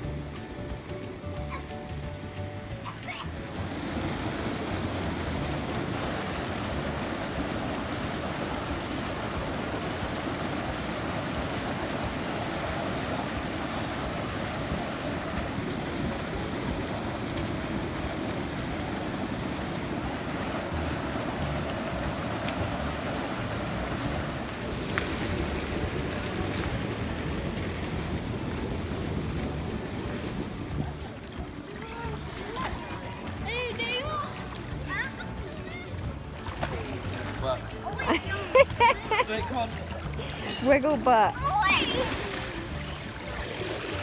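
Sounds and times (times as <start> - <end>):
churning water from pool jets: 0.0 - 44.0.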